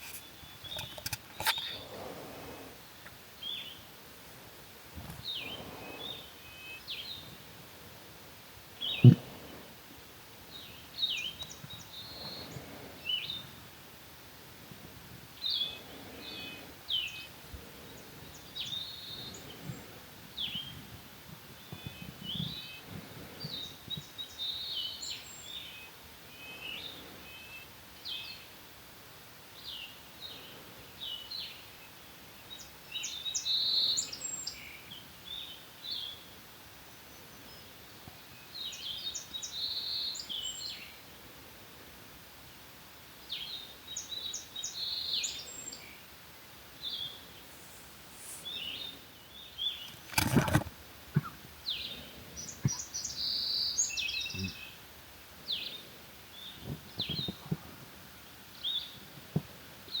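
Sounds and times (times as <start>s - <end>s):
songbirds chirping and trilling: 0.0s - 14.4s, 15.0s - 28.7s, 29.4s - 41.1s, 42.4s - 59.2s.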